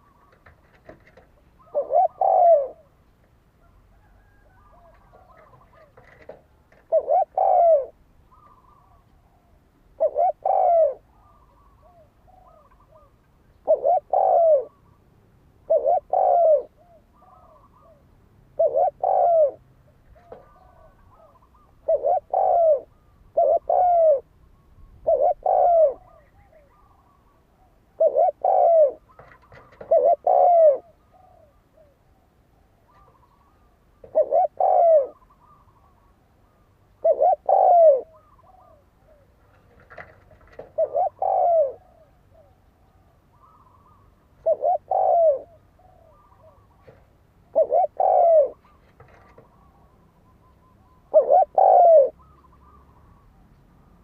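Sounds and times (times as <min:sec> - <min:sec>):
dove cooing: 0:00.0 - 0:53.4.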